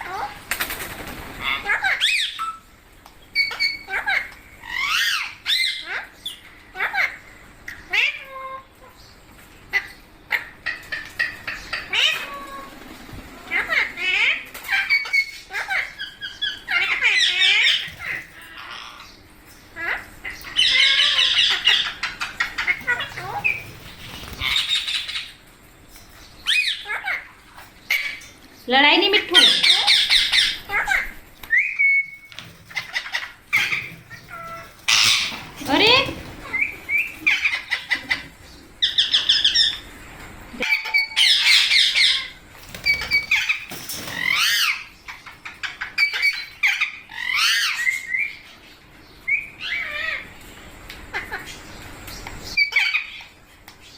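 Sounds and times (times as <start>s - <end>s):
parakeets squawking: 0.0s - 2.7s, 3.3s - 9.0s, 9.7s - 50.4s, 51.0s - 51.8s, 52.5s - 53.9s.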